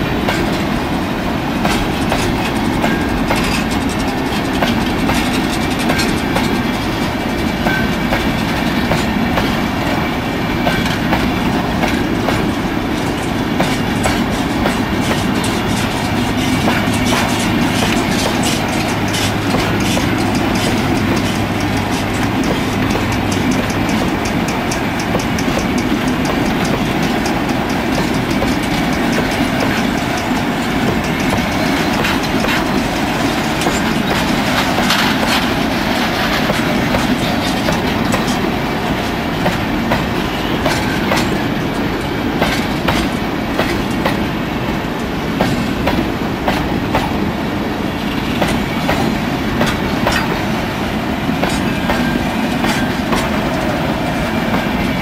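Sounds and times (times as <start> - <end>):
train wheels on rails: 0.0 - 55.0
wheels clicking over rail joints: 1.6 - 47.2, 47.9 - 55.0.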